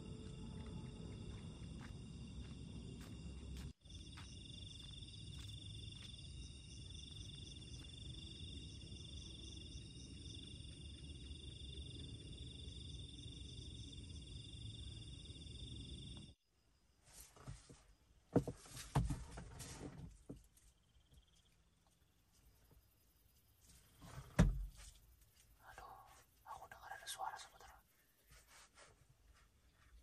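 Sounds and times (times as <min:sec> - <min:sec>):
night insects chorus: 0:00.0 - 0:16.7, 0:20.7 - 0:28.2.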